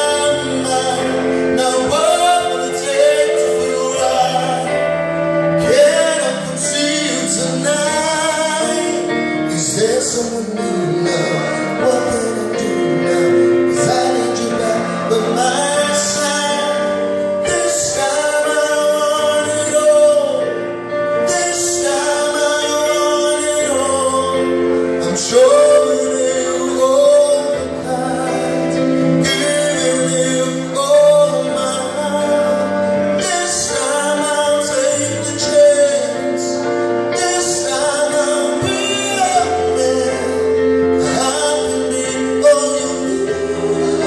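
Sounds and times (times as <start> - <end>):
amplified backing music: 0.0 - 44.0
man singing into a microphone: 0.0 - 44.0.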